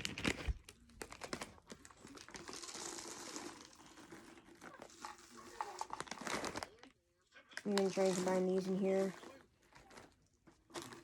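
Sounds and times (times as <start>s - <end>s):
plastic bags crinkling: 0.0s - 6.9s, 7.6s - 11.0s.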